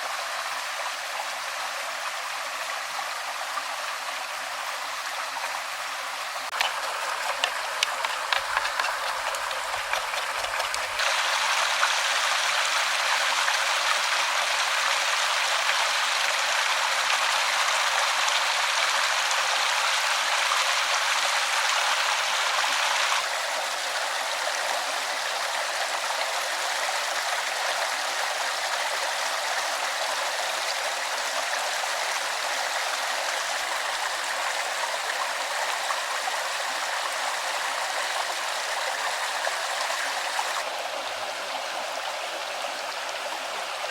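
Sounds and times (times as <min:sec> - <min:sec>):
stream water running: 0:00.0 - 0:43.9.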